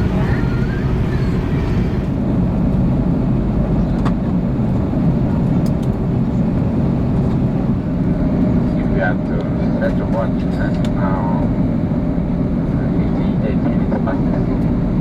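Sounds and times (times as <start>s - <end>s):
airplane cabin engine noise: 0.0s - 15.0s.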